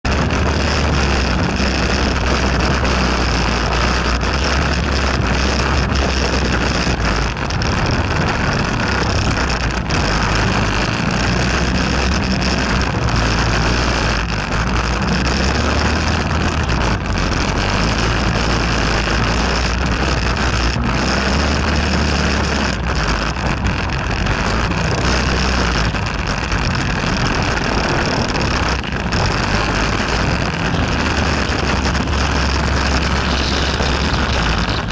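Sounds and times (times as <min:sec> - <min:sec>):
quad bike engine running: 0:00.0 - 0:34.9.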